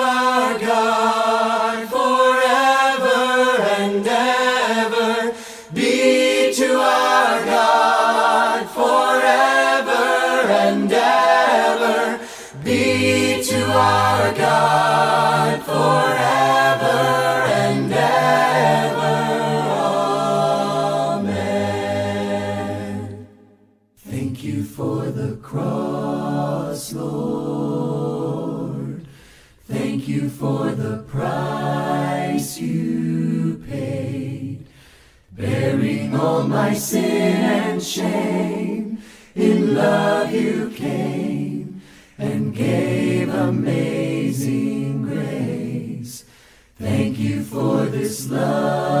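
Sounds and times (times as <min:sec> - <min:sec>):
vocal group singing a hymn: 0:00.0 - 0:49.0.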